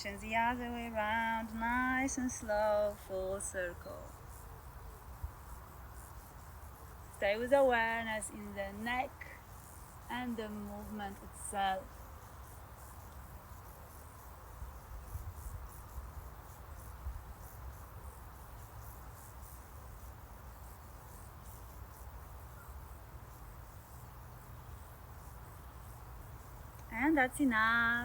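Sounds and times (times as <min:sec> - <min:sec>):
crickets chirping: 0:00.0 - 0:28.0.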